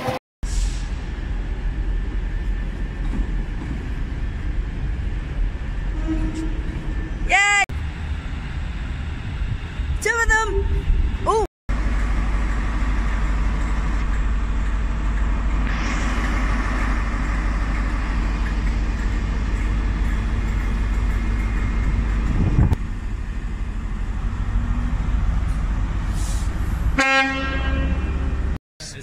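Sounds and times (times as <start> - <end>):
diesel train passing: 0.0 - 29.0
rail noise: 0.0 - 29.0.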